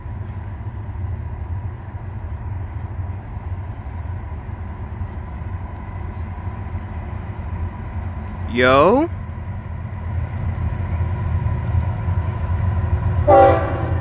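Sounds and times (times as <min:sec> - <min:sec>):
distant diesel locomotive rumble: 0:00.0 - 0:14.0.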